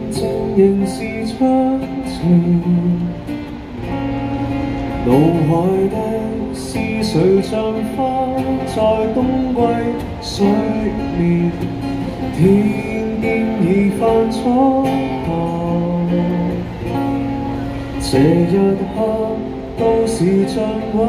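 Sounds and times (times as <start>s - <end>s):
person singing: 0.0s - 3.4s, 5.0s - 17.0s, 18.0s - 21.0s
acoustic guitar strumming: 0.0s - 21.0s.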